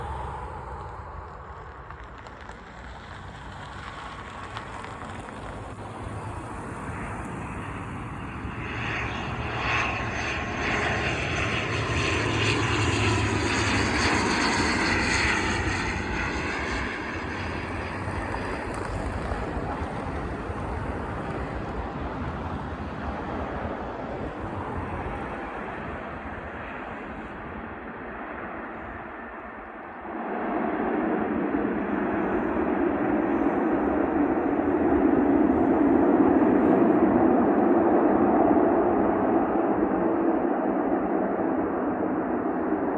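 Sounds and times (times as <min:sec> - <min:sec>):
turboprop airliner passing: 0:00.0 - 0:42.9.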